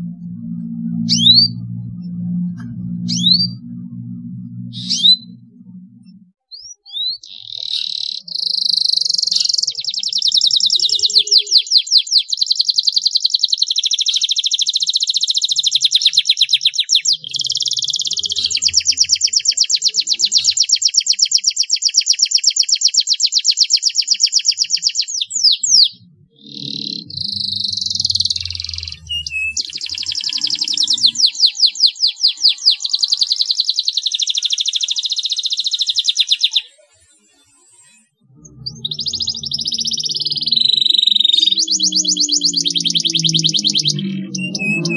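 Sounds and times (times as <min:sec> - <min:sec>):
canary singing trills: 0:00.4 - 0:44.9.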